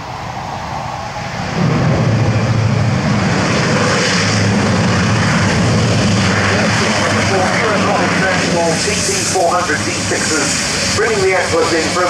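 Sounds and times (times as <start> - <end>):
turboprop engines in reverse thrust: 0.0 - 12.0.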